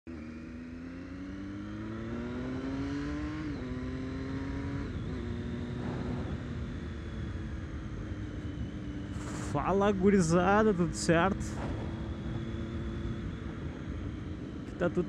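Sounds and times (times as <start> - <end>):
motorcycle engine accelerating: 0.1 - 15.0.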